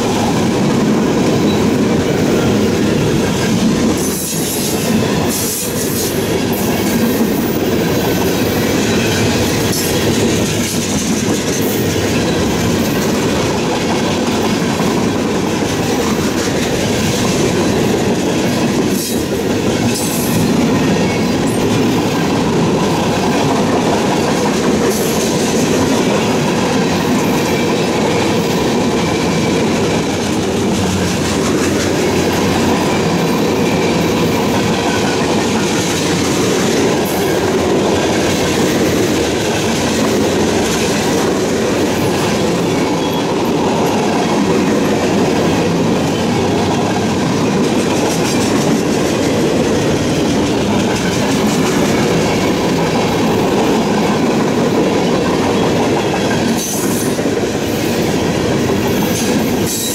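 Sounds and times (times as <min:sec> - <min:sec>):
train wheels rumbling on rail: 0:00.0 - 0:59.9
wheels clacking over rail joints: 0:00.0 - 0:59.9.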